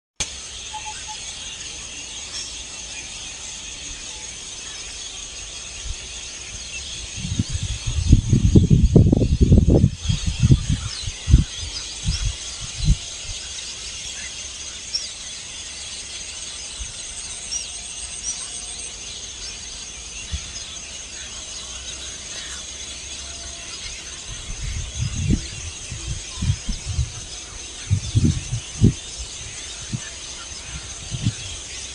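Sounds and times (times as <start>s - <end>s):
insects chirring: 0.2s - 31.9s.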